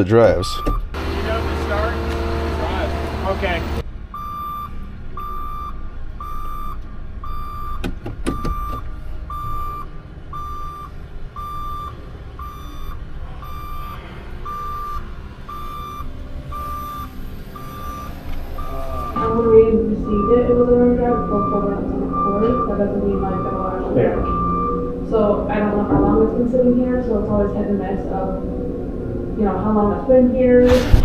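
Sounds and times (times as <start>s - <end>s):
reverse warning beeper: 0.5s - 30.5s.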